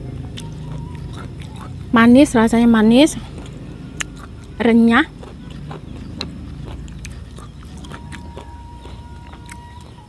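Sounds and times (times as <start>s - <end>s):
low steady rumble: 0.0s - 10.0s
crunchy chewing: 0.1s - 10.0s.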